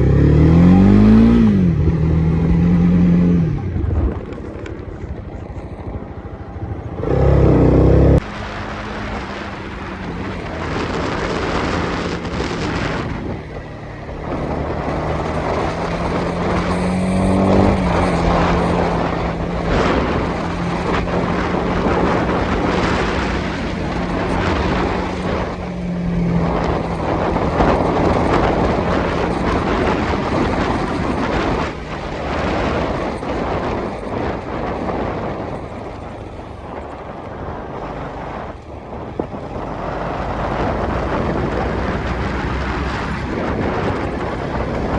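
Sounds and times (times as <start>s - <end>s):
motorcycle engine revving: 0.0s - 44.9s
wind rush on microphone: 0.0s - 44.9s.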